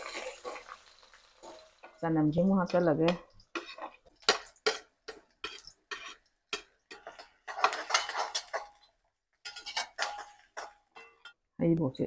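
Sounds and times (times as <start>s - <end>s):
metal spoon scraping wok: 0.0s - 2.0s, 2.6s - 11.4s.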